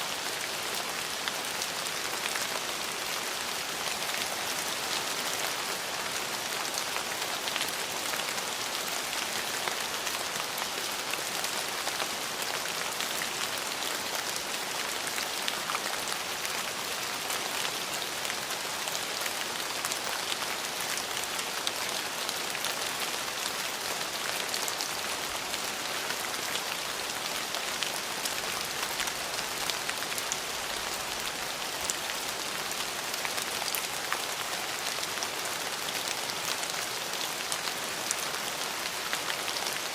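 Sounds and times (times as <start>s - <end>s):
raindrops pattering on surfaces: 0.0s - 39.9s
steady rain falling: 0.0s - 39.9s.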